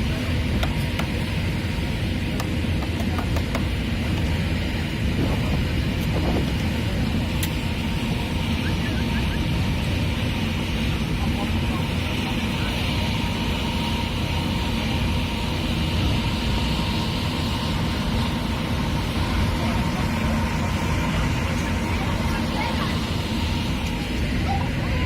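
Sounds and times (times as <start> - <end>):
rushing wind: 0.0 - 25.0
ship low rumble: 0.0 - 25.0.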